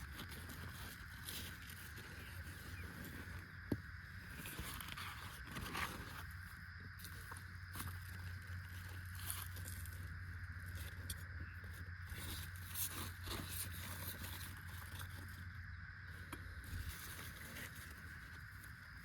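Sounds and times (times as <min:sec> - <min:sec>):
faint ticks and rustles: 0:00.0 - 0:19.0
steady high hum: 0:00.0 - 0:19.0.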